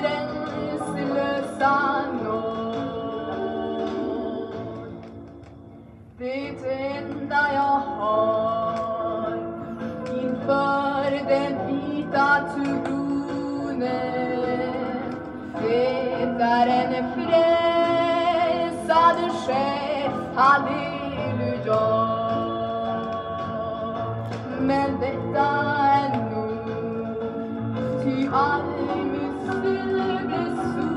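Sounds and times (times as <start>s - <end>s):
gospel song singing: 0.0s - 5.5s, 6.2s - 30.9s.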